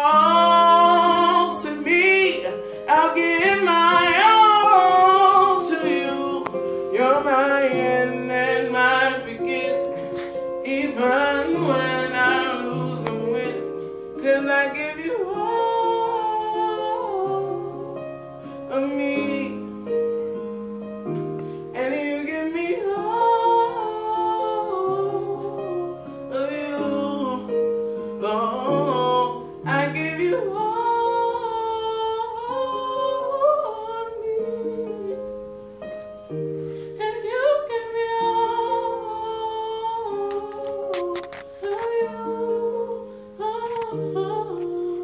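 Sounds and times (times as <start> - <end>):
young man singing: 0.0 - 20.2, 21.7 - 35.3, 37.0 - 45.0
piano accompaniment: 0.0 - 45.0.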